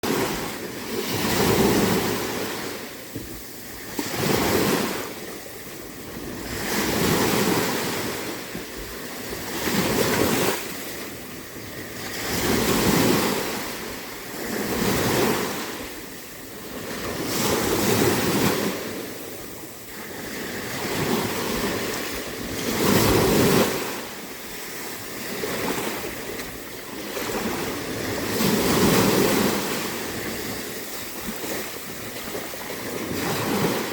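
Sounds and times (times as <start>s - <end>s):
small waves washing in: 0.0s - 33.9s
wind on microphone: 0.0s - 33.9s.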